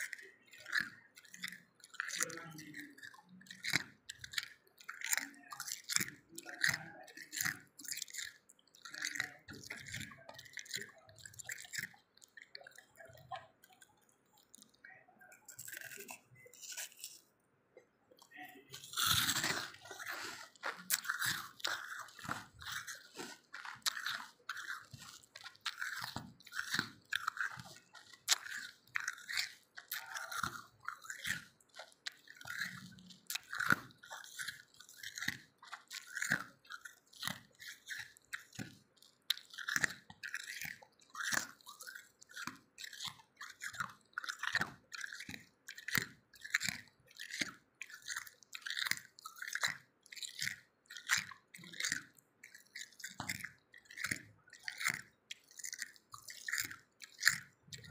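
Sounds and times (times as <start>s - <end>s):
person chewing crunchy ice: 0.0s - 17.5s, 18.1s - 57.9s.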